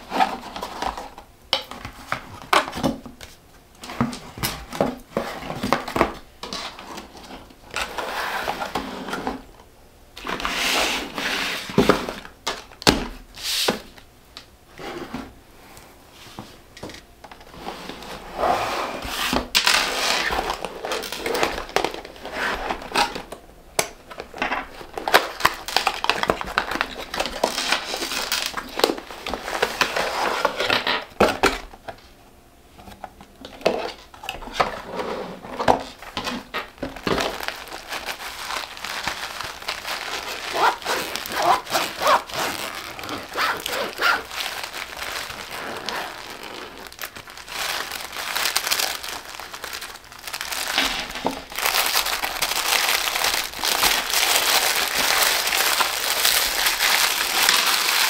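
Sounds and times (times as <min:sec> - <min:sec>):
paper and cardboard crinkling: 0:00.0 - 0:09.5, 0:16.4 - 0:23.4, 0:24.0 - 0:32.2, 0:32.9 - 0:58.0.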